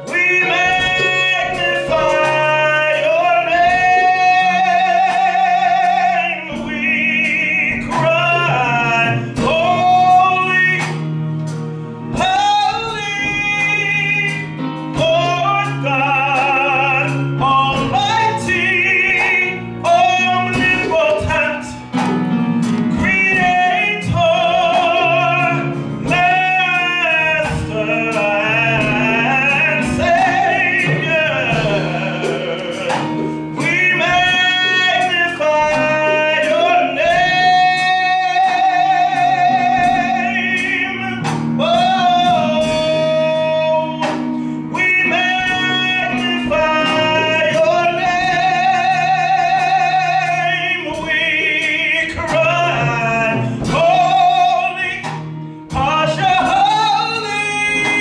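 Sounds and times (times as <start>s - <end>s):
percussion steady beat: 0.0s - 58.0s
person singing with vibrato: 0.0s - 58.0s.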